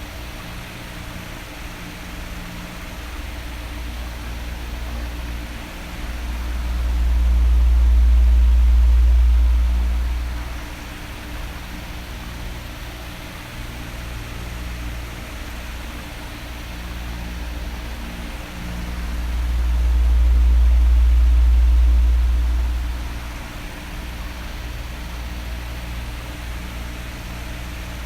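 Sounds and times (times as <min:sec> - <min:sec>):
electric fan whoosh of air: 0:00.0 - 0:13.3, 0:13.9 - 0:28.0
faint fan motor hum: 0:00.0 - 0:28.0.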